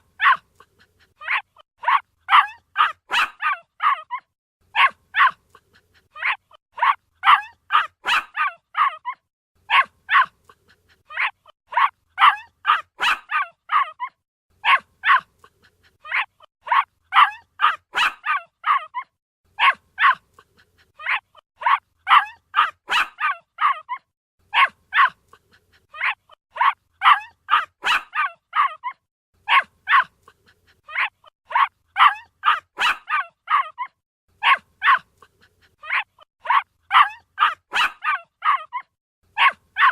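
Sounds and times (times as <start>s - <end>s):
puppy yipping: 0.0s - 39.9s.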